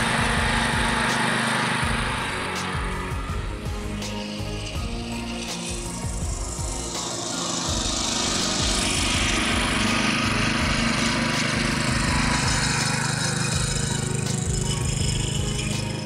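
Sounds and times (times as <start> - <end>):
cultivator engine idling: 0.0 - 16.0.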